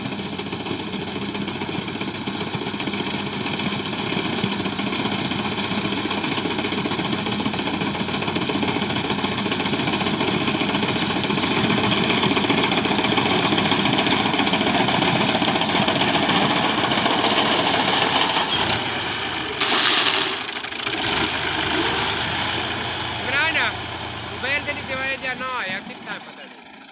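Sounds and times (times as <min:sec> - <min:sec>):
reaper machine engine running: 0:00.0 - 0:26.9.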